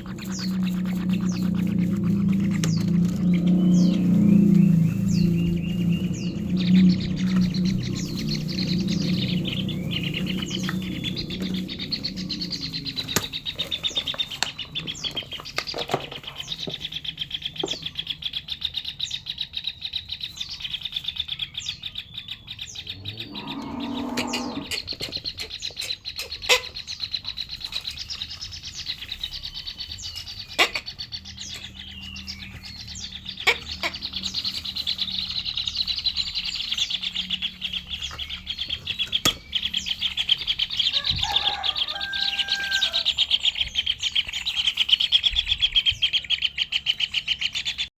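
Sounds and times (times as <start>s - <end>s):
chicks begging with buzzy trill: 0.0s - 47.9s.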